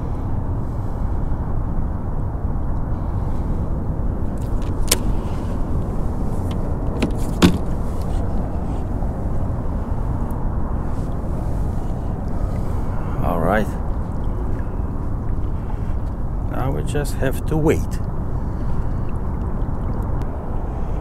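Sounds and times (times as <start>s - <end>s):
wind and water rumble: 0.0s - 21.0s.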